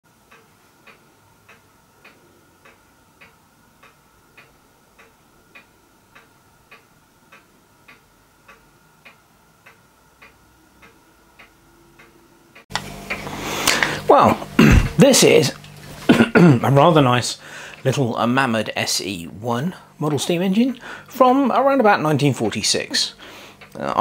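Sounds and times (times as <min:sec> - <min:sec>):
clock ticking: 0:00.1 - 0:15.5, 0:20.0 - 0:24.0
faint steady hum: 0:00.1 - 0:24.0.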